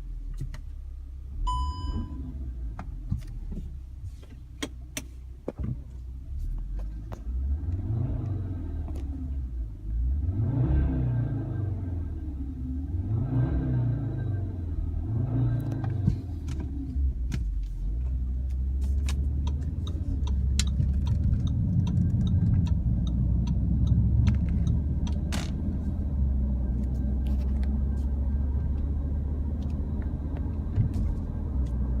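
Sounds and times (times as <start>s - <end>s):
road and engine rumble in car: 0.0s - 32.0s.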